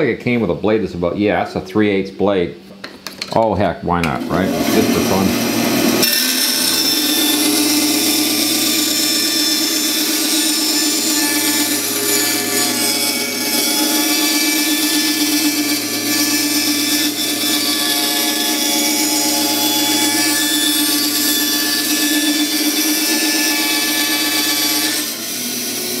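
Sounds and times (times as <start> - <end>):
bandsaw cutting wood: 4.0 - 26.0.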